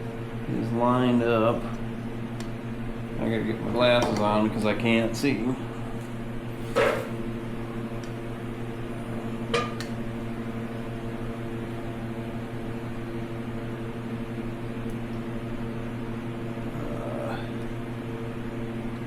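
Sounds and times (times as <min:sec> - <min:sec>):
fan or motor humming: 0:00.0 - 0:19.0.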